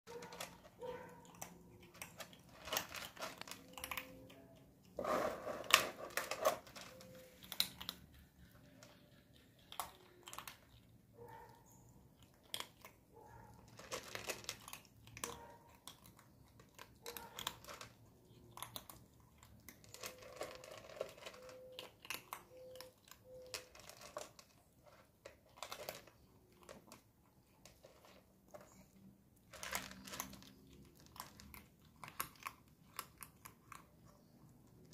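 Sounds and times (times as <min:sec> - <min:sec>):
kittens chewing and crunching: 0:00.1 - 0:34.9.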